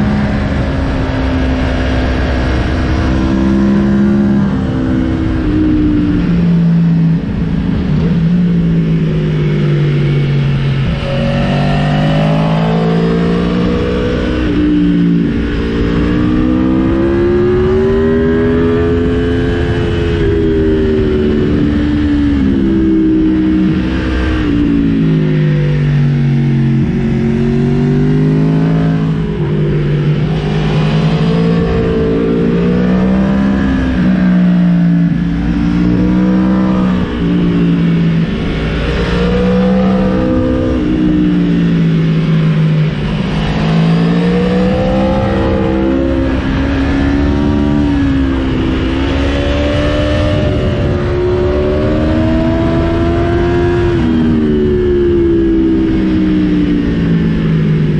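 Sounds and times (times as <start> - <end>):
motorcycle engine revving: 0.0 - 57.9
wind noise: 0.0 - 57.9.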